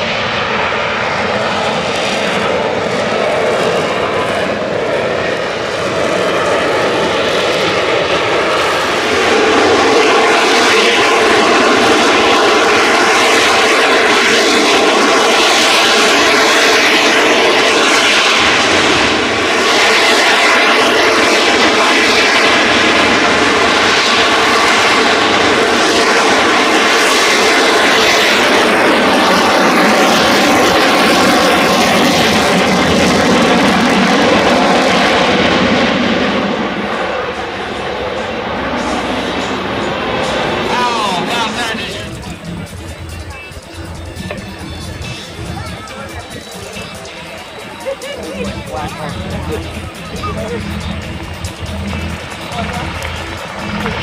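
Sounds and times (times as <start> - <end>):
fighter jet flying low: 0.0 - 54.0.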